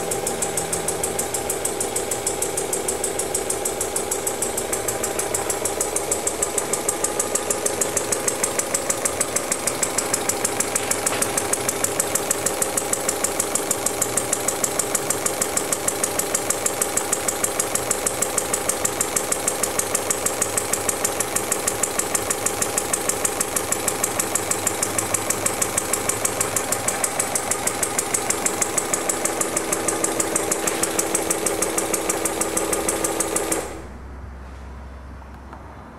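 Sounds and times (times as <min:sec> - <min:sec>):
model engine clattering: 0:00.0 - 0:33.9.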